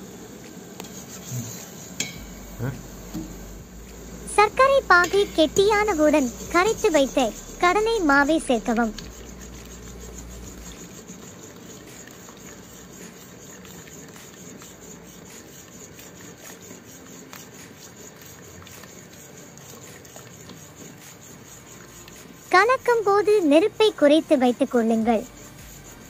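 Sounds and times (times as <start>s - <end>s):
syrup bubbling and sizzling: 0.0s - 26.0s
metal spatula scraping: 3.9s - 26.0s.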